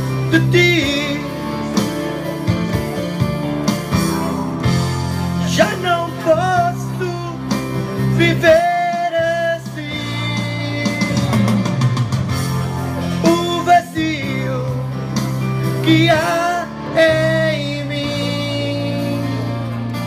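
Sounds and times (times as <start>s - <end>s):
man singing with vibrato: 0.0s - 2.9s, 5.4s - 12.0s, 12.9s - 20.0s
backing music with guitar: 0.0s - 20.0s.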